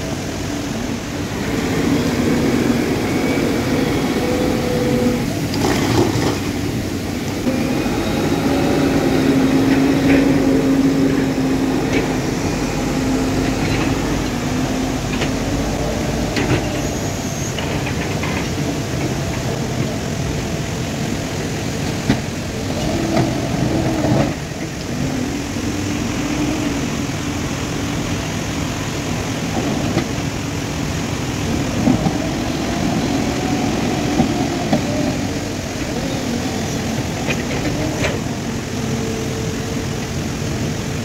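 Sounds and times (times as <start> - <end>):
diesel engine under load: 0.0 - 41.0.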